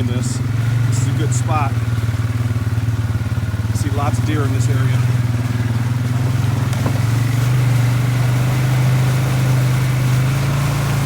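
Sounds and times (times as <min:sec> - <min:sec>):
atv engine humming: 0:00.0 - 0:11.0.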